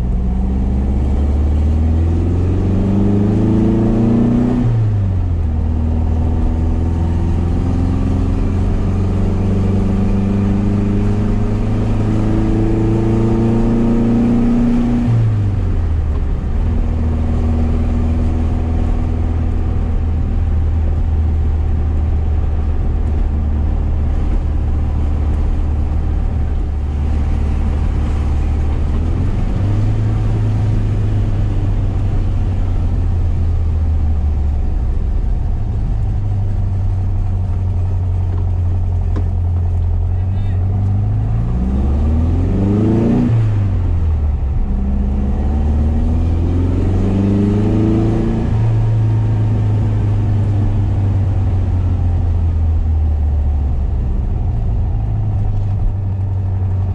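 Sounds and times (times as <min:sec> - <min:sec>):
car engine revving and shifting: 0:00.0 - 0:56.9.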